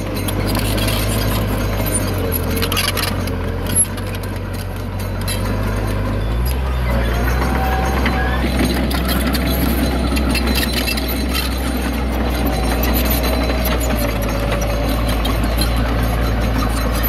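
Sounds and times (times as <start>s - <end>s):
diesel engine drone: 0.0s - 17.0s
metallic clanks and rattles: 0.0s - 17.0s.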